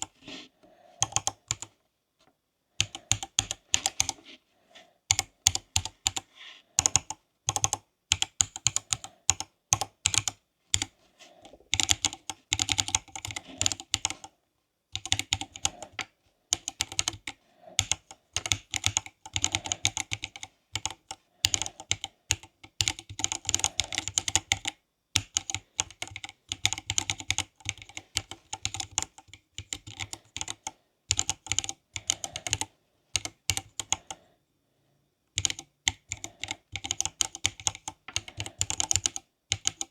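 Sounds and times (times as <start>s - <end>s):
mechanical keyboard typing: 1.0s - 1.7s, 2.8s - 4.2s, 5.1s - 6.2s, 6.8s - 10.9s, 11.7s - 14.3s, 15.0s - 34.2s, 35.4s - 39.9s.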